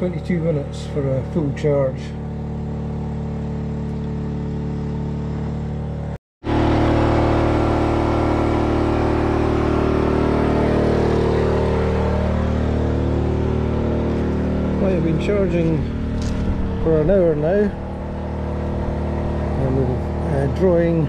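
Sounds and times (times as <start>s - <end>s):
petrol generator running: 0.0s - 21.0s.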